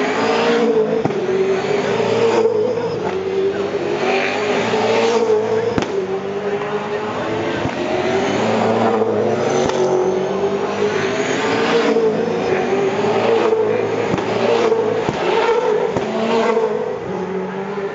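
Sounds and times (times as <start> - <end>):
race car engines passing at speed: 0.0 - 17.9.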